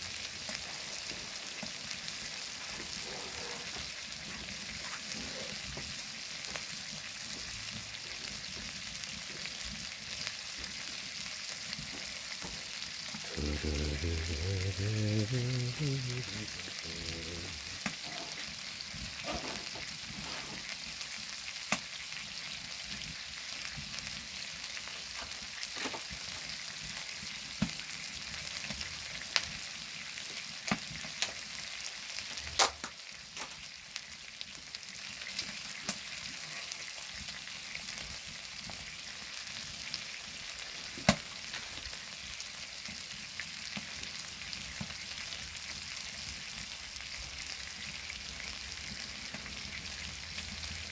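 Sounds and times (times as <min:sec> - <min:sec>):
pork sizzling on hot stone: 0:00.0 - 0:50.9.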